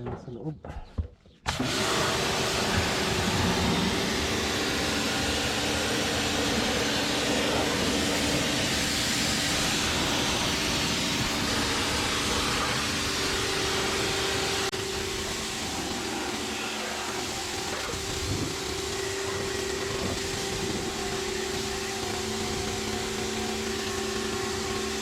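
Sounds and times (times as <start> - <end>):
steady motor hum: 1.5 - 25.0
rushing hiss of machine: 1.6 - 25.0.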